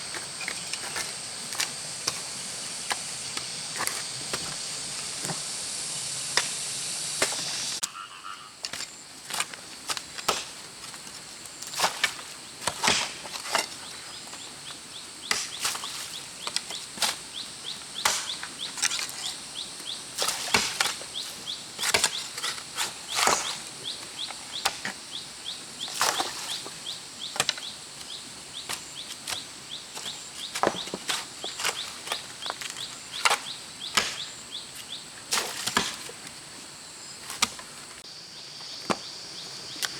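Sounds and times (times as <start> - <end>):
hoes chopping into soil: 0.0 - 7.8, 8.6 - 14.5, 15.2 - 25.0, 25.8 - 36.4, 37.2 - 37.8.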